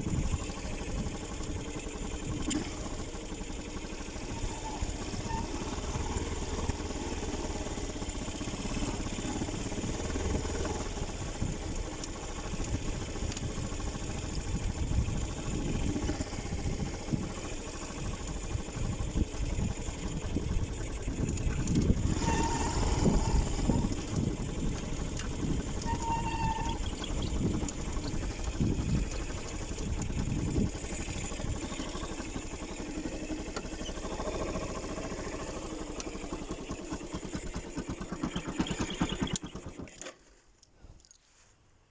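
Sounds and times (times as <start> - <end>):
motorcycle engine rumbling: 0.0 - 41.0.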